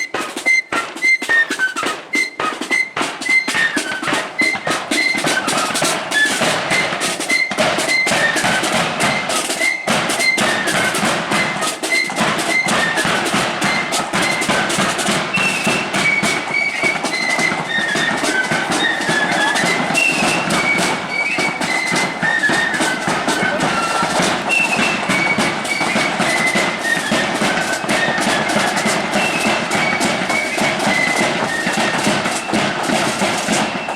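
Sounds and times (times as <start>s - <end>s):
high flute melody: 0.0s - 33.9s
steady drumming: 0.0s - 33.9s.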